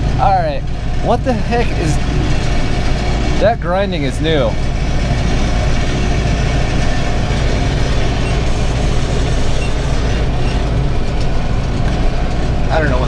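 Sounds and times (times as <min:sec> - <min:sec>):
baler grinding: 0:00.0 - 0:13.0
tractor and baler running: 0:00.0 - 0:13.0.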